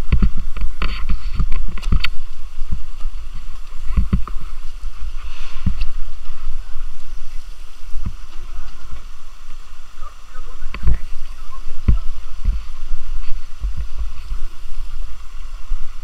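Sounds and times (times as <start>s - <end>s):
low rumble on microphone: 0.0s - 16.0s
stream water rushing over rocks: 0.0s - 16.0s.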